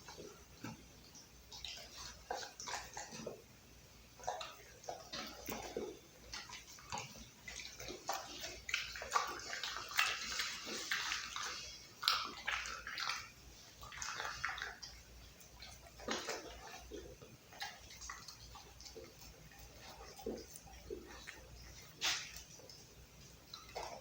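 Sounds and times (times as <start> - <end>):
dog chewing raw meat: 0.0 - 24.0.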